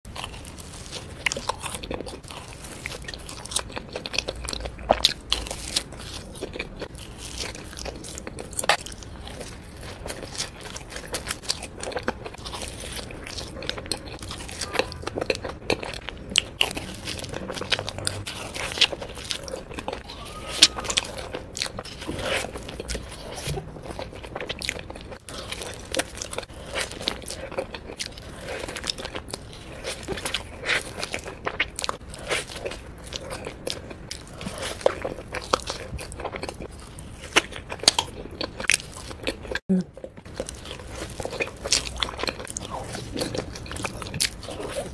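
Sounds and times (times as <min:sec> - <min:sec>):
person chewing donuts: 0:00.1 - 0:44.9.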